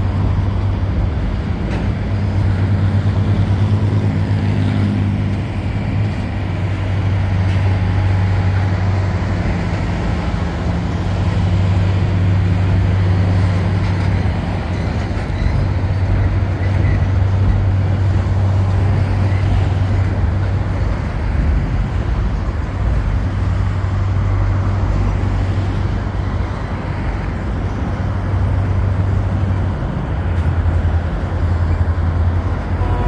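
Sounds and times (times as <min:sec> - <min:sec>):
train cars rumbling over a trestle: 0:00.0 - 0:33.0.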